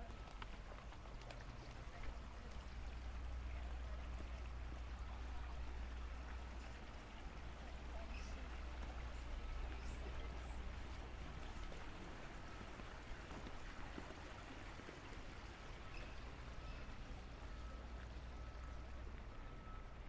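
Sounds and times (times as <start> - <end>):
fountain water splashing into pool: 0.0 - 19.4
low steady rumble: 0.0 - 20.0.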